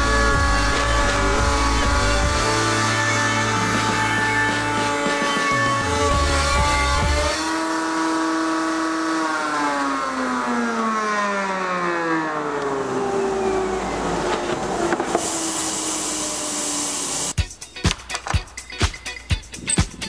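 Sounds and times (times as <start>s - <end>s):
router motor whining and winding down: 0.0s - 17.4s.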